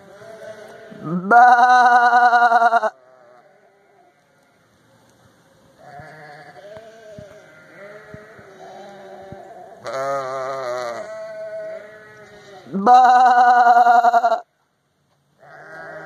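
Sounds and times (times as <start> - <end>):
sheep bleating: 0.0 - 4.7, 5.8 - 14.5, 15.4 - 16.0.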